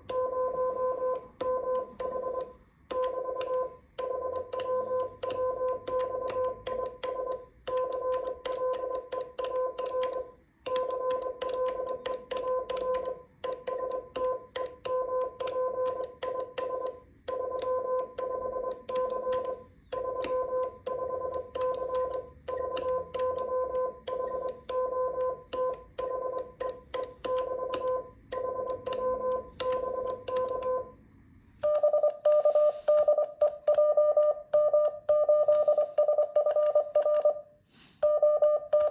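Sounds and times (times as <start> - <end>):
morse code tone: 0.0 - 31.0, 31.6 - 37.4, 38.0 - 38.9.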